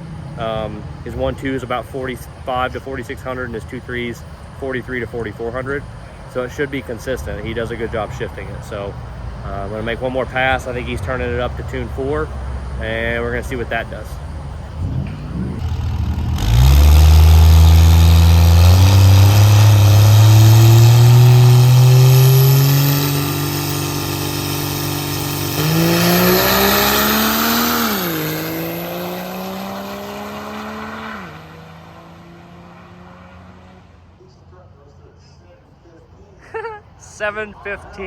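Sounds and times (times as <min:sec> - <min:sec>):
diesel truck accelerating hard: 0:00.0 - 0:34.3.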